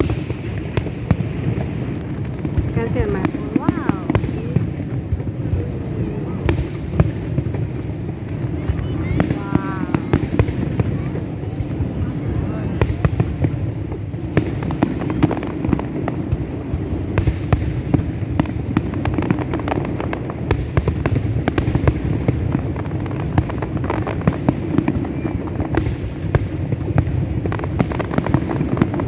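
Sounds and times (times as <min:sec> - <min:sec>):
fireworks cracking and popping: 0:00.0 - 0:29.0.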